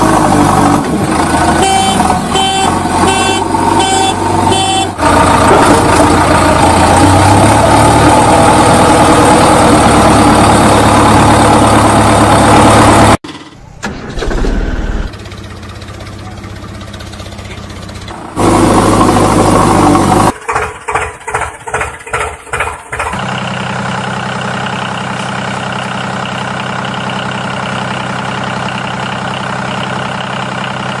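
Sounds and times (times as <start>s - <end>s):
diesel engines droning: 0.0s - 31.0s.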